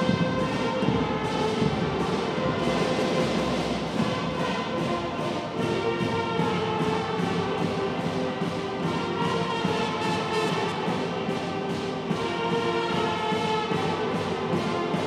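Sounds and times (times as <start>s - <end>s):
wind band playing: 0.0s - 15.0s.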